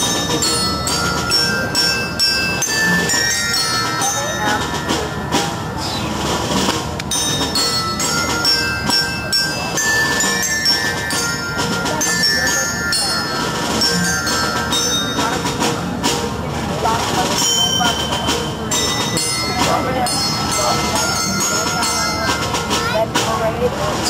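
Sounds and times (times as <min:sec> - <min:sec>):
bells and chimes ringing: 0:00.0 - 0:24.0.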